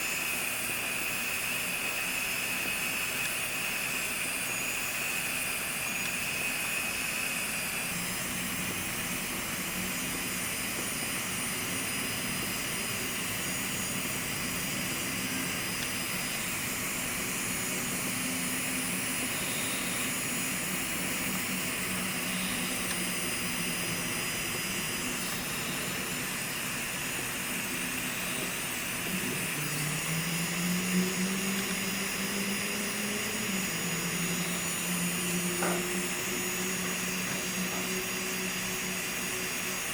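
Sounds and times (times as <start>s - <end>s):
electric foot-care drill whining: 0.0s - 39.9s.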